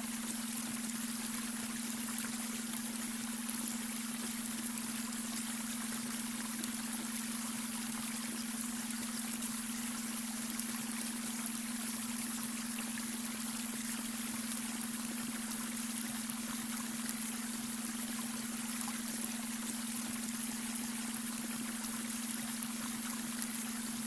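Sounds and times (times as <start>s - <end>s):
steady low hum tone: 0.0s - 24.0s
water trickling over stones: 0.0s - 24.0s.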